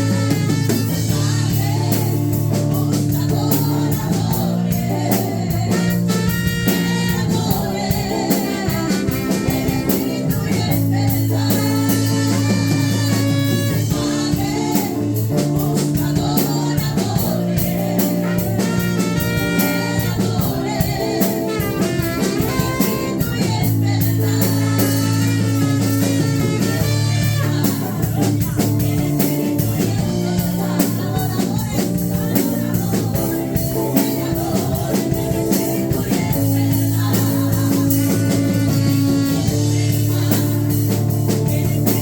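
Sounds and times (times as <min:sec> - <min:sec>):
singing: 0:00.0 - 0:42.0
worship band playing: 0:00.0 - 0:42.0.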